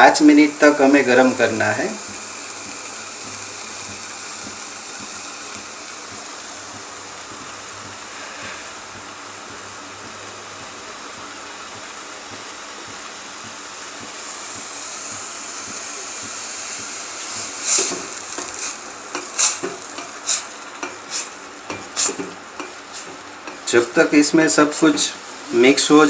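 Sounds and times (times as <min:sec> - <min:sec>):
milk heating in a pan hissing: 0:00.0 - 0:26.0.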